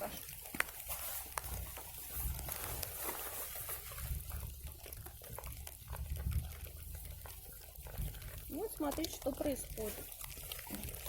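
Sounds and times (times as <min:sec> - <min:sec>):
campfire kindling crackling: 0:00.0 - 0:11.0.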